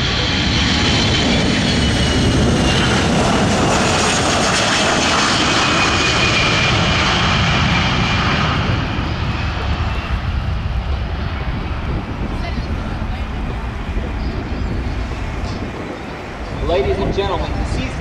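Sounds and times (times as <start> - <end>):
jet engines whining on low pass: 0.0 - 18.0.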